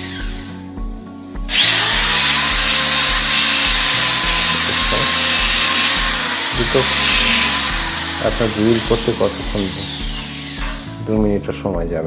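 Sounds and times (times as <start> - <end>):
electric drill boring into wall: 0.0 - 0.7, 1.4 - 11.1.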